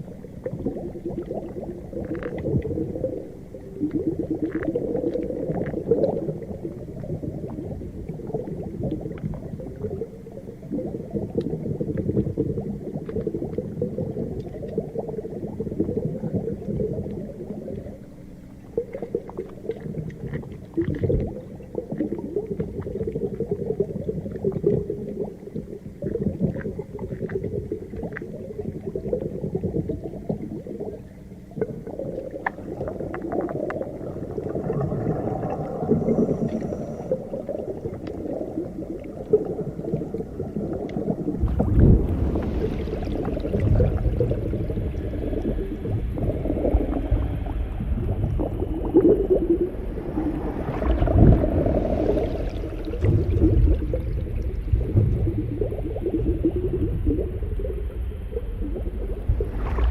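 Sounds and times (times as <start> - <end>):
underwater bubbling rumble: 0.0 - 59.9.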